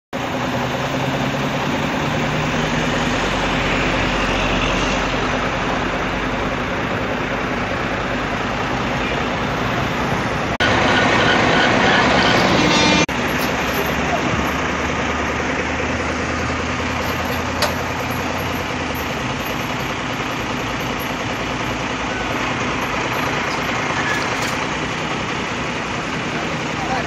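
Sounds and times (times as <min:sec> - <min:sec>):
road and wind noise: 0:00.2 - 0:27.0
vehicle engine running: 0:00.2 - 0:27.0.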